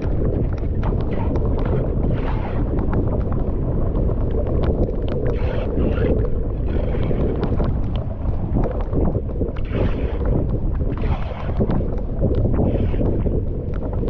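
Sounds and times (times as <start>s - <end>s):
water splashes and clicks: 0.0s - 14.0s.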